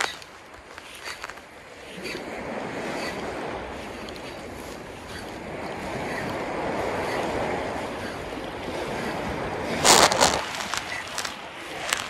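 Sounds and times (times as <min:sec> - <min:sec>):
waves washing against the shore: 0:00.0 - 0:12.0.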